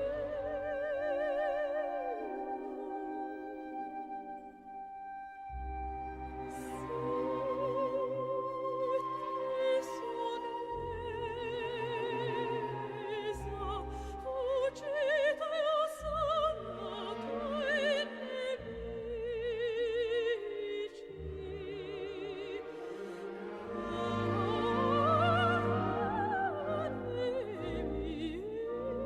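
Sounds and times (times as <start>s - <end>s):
operatic singing voice: 0.0s - 4.4s, 6.2s - 29.0s
orchestral accompaniment: 0.0s - 29.0s.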